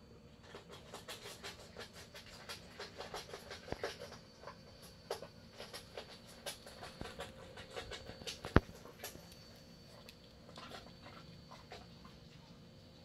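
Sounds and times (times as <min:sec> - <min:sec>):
puppy claws clicking on wooden floor: 0:00.5 - 0:11.9.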